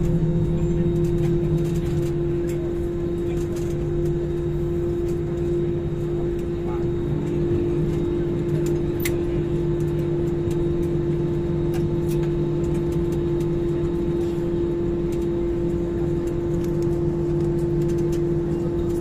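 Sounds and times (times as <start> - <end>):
engines and airflow humming: 0.0 - 19.0.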